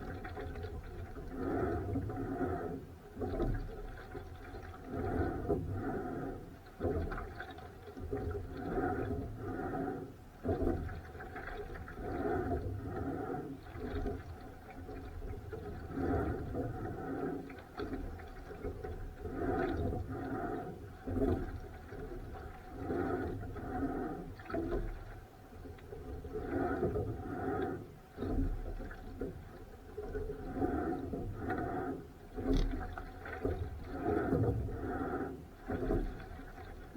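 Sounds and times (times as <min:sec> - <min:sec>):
water sloshing with oar strokes: 0:00.0 - 0:36.9.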